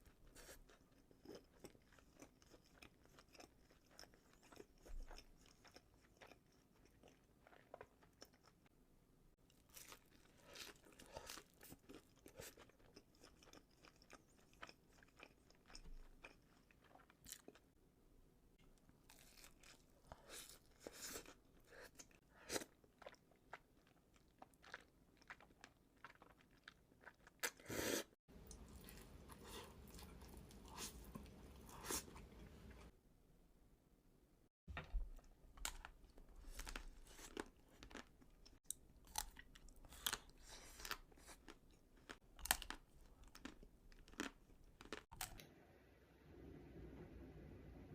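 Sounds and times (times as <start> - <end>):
close chewing and biting: 0.0 - 8.7, 9.5 - 17.6, 19.1 - 27.6, 28.4 - 32.9, 35.6 - 45.4.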